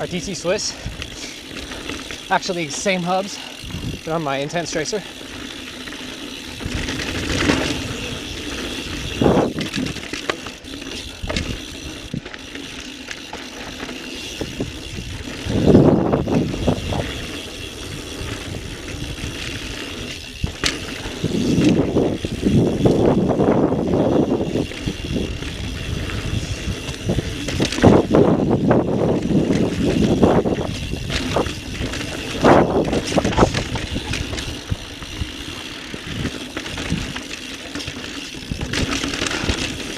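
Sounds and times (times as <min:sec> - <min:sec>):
bike knocking and rattling: 0:00.0 - 0:39.9
bike tyres on dirt trail: 0:00.0 - 0:39.9.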